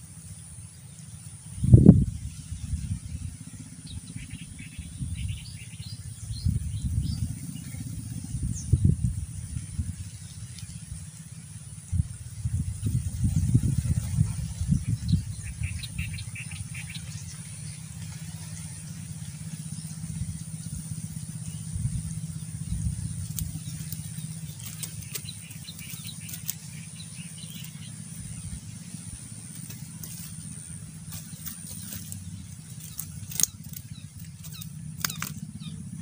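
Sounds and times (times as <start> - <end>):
faint bird chirps: 0.0 - 36.0
low uneven rumble: 0.0 - 36.0.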